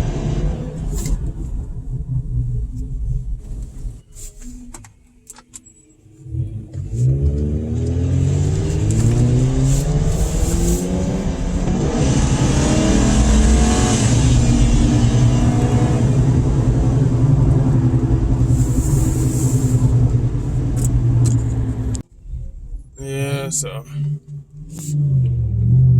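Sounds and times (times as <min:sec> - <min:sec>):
car engine revving: 0:00.0 - 0:04.3, 0:06.2 - 0:25.9.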